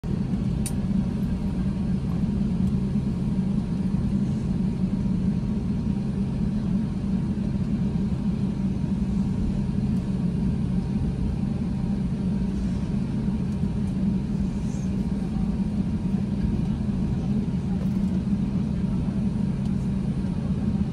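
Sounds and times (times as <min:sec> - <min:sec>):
airliner cabin rumble: 0:00.0 - 0:20.9.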